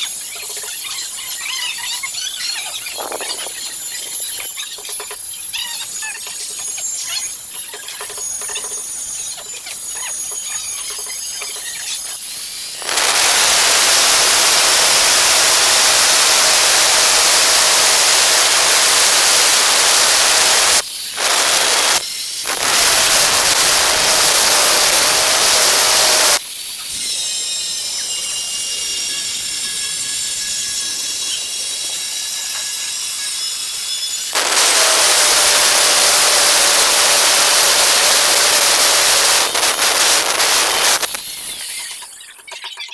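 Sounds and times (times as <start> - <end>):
angle grinder cutting tile: 0.0 - 42.2
grinder whining: 0.0 - 42.3.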